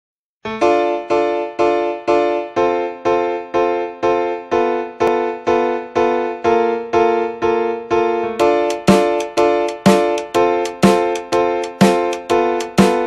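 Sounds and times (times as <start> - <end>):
keyboard chords: 0.5 - 13.0.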